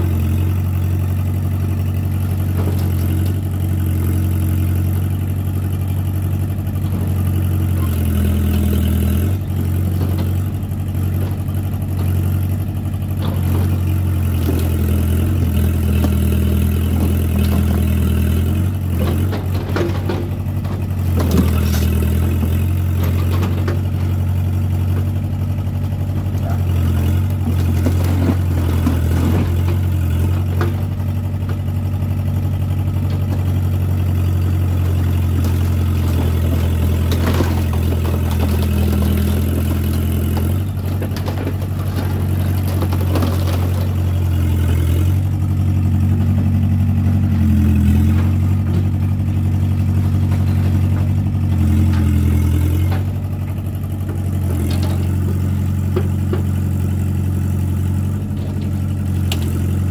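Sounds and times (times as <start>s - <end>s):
diesel excavator engine running: 0.0s - 59.9s.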